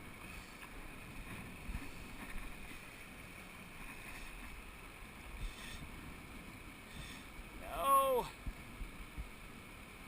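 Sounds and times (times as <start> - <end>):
river flowing: 0.0 - 10.0.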